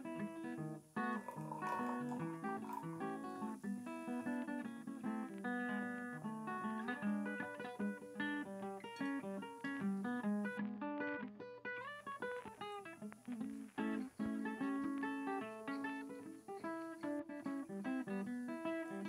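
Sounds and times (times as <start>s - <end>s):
acoustic guitar plucking: 0.0s - 19.0s.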